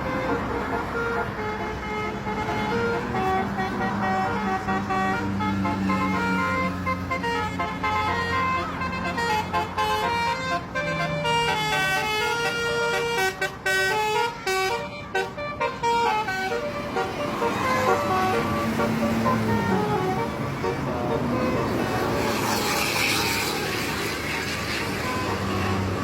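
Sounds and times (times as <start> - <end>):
air horn playing a tune: 0.0 - 26.0.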